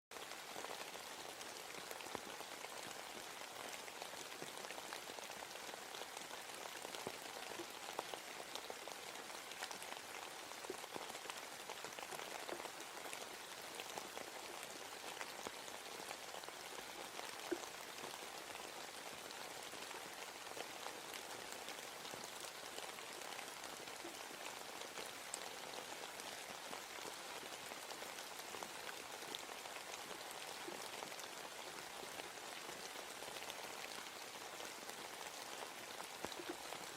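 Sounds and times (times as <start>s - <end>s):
rain patter on leaves: 0.1s - 36.9s.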